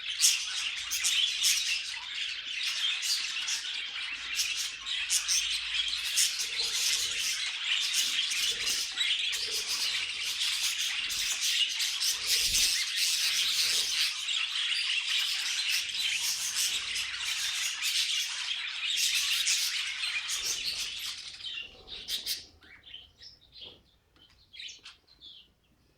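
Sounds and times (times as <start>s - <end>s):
budgerigars chattering: 0.0s - 23.1s.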